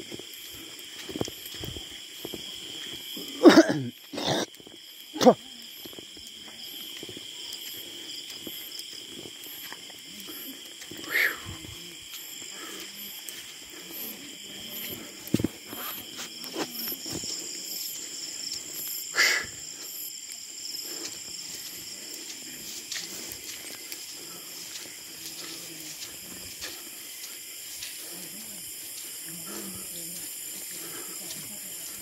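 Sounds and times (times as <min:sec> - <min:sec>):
night insects calling: 0:00.0 - 0:32.0.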